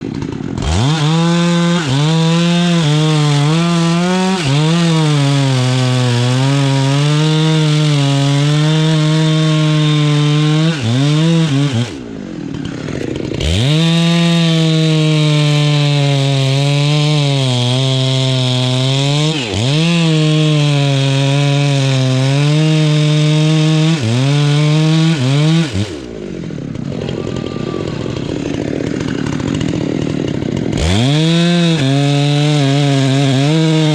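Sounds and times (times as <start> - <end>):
chainsaw cutting into tree: 0.0 - 33.9.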